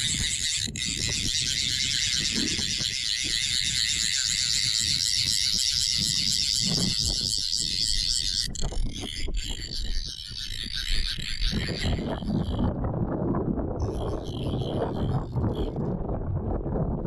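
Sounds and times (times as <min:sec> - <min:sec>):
fly reel buzzing: 0:00.0 - 0:12.7, 0:13.8 - 0:15.8.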